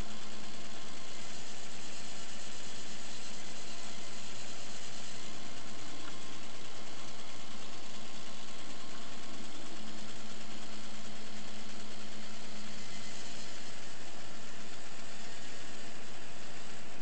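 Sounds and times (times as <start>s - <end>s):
model train motor humming: 0.0s - 17.0s.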